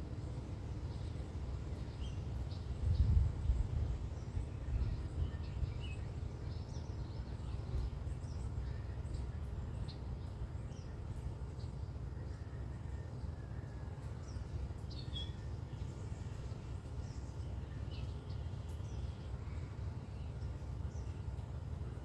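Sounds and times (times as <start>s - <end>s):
steady low rumble: 0.0s - 22.0s
small birds chirping: 0.2s - 12.6s, 13.2s - 22.0s.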